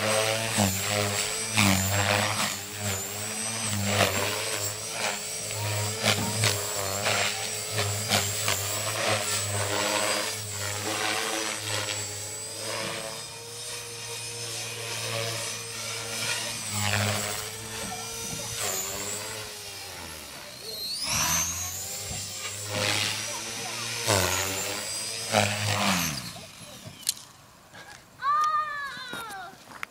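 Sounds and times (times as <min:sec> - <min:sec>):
rc helicopter motor whine: 0:00.0 - 0:29.8.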